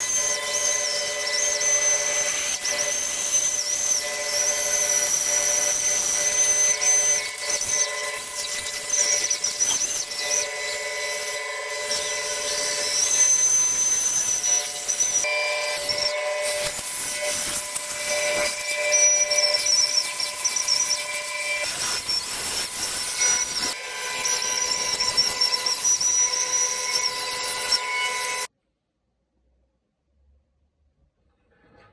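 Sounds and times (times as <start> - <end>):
power tool whining on wood: 0.0 - 28.5.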